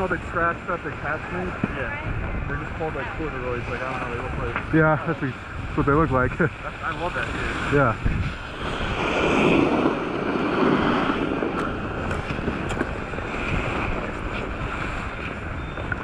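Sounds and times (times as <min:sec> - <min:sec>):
skis sliding on packed snow: 0:00.0 - 0:16.0
wind on microphone: 0:00.0 - 0:16.0.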